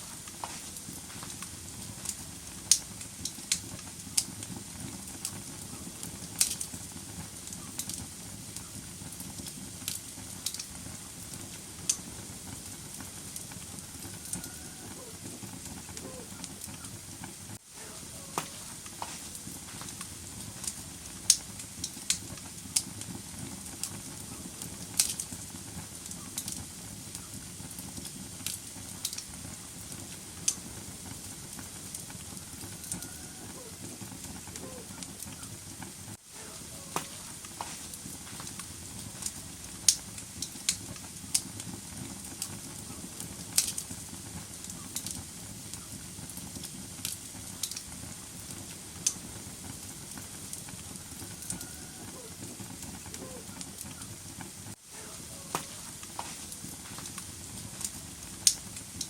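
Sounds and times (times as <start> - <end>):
wood fire crackling and hissing: 0.0 - 59.0.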